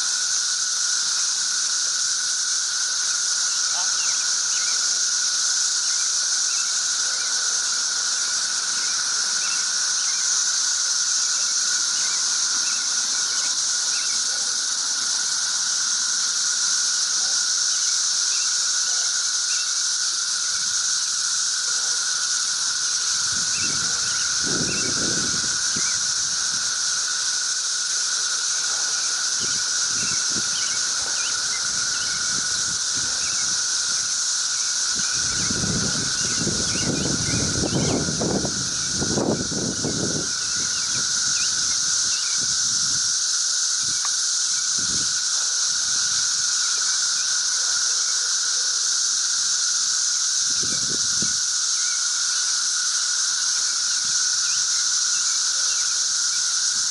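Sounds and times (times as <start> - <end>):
cicadas droning: 0.0 - 56.9.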